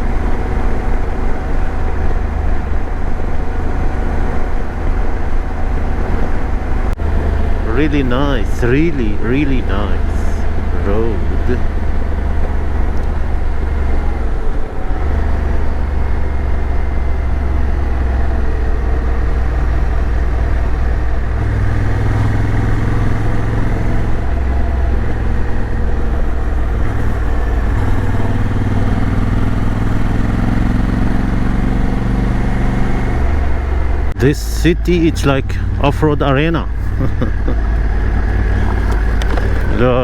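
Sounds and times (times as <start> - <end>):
motorcycle engine running: 0.0 - 40.0
road noise: 0.0 - 40.0.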